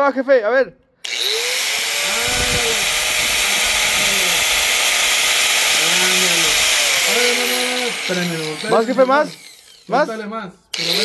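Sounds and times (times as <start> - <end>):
angle grinder whining: 1.0 - 11.0.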